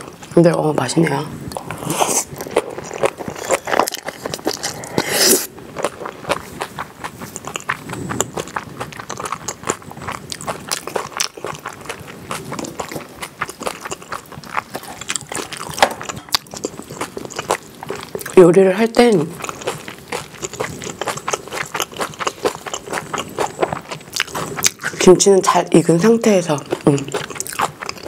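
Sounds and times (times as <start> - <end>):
close chewing with mouth clicks: 1.5 - 28.0.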